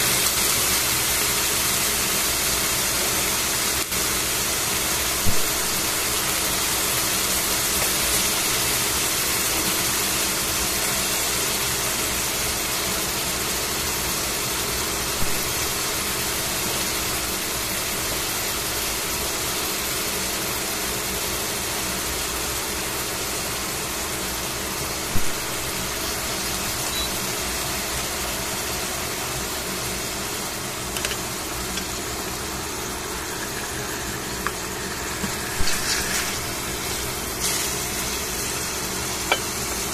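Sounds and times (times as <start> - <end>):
beef sizzling in a frying pan: 0.0 - 39.9.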